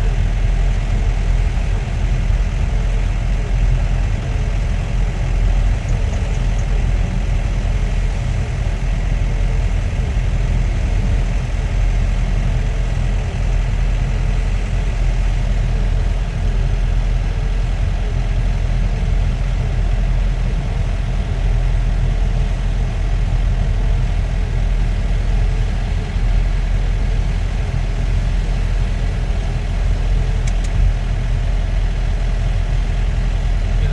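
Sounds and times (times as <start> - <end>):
road rumble: 0.0 - 21.5, 22.5 - 33.9
car engine running: 0.0 - 33.9.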